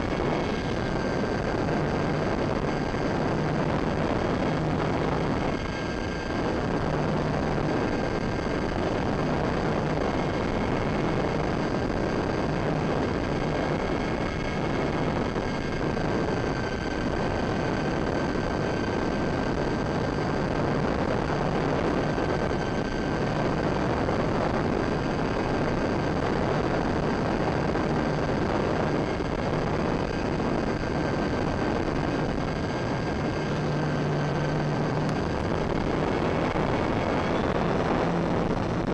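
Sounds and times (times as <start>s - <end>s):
electric motors and propellers whining: 0.0s - 38.9s
wind rush on microphone: 0.0s - 38.9s.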